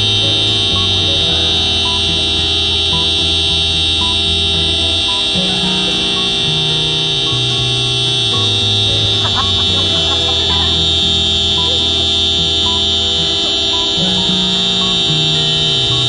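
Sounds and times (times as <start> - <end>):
wavering voice-like sound: 0.0 - 16.0.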